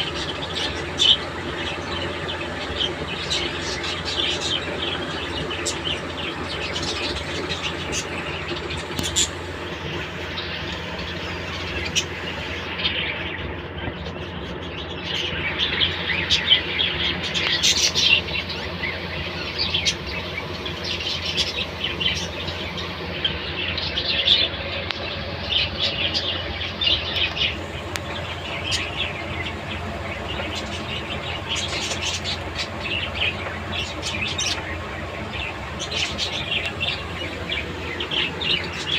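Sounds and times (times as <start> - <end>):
budgerigars chirping: 0.0 - 38.9
low hum: 0.0 - 38.9.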